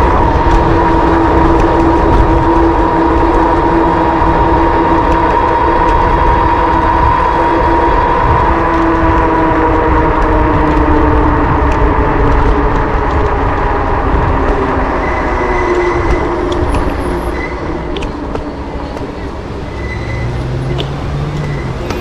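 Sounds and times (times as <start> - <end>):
low riding rumble: 0.0 - 22.0.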